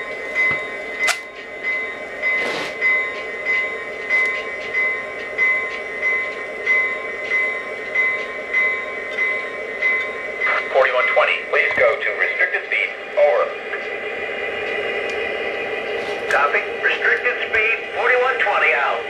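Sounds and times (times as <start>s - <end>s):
model train diesel engine rumble: 0.0s - 19.0s.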